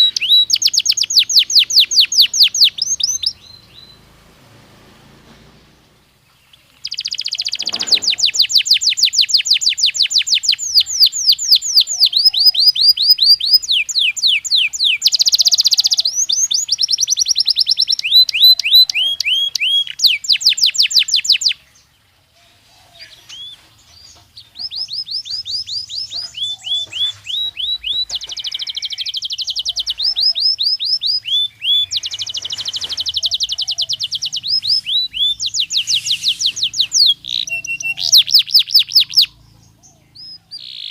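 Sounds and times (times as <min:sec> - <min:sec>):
canary singing trills: 0:00.0 - 0:05.0, 0:05.7 - 0:40.9.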